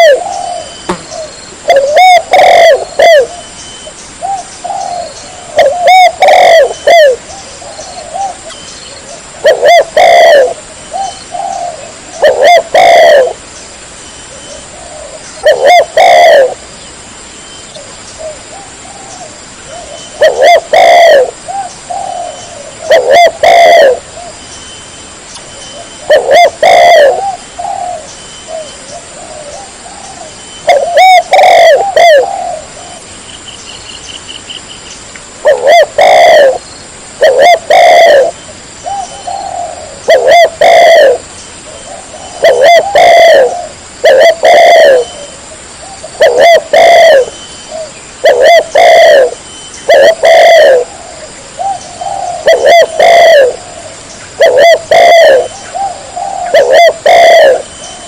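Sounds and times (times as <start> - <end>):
dove cooing: 0.0 - 13.4, 14.4 - 16.6, 18.2 - 24.4, 25.7 - 33.1, 35.4 - 36.6, 37.2 - 58.0.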